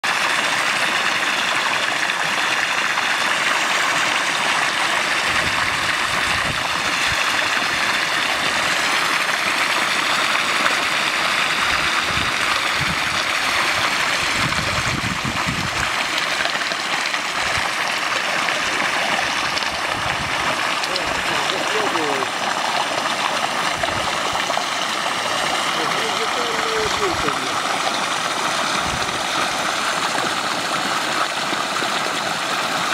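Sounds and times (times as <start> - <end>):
sewage water rushing and churning: 0.0 - 32.9.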